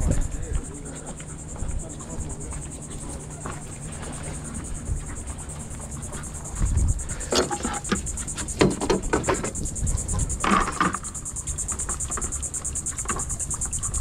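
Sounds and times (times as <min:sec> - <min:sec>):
insect trill: 0:00.0 - 0:14.0
wind rumble on microphone: 0:00.0 - 0:14.0.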